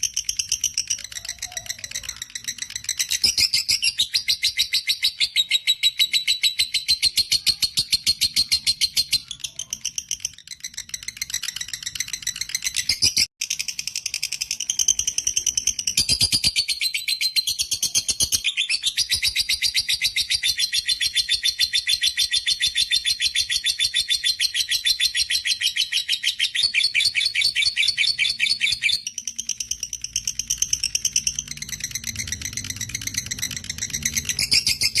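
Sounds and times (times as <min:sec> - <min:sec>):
lovebird chattering trill: 0:00.0 - 0:35.0.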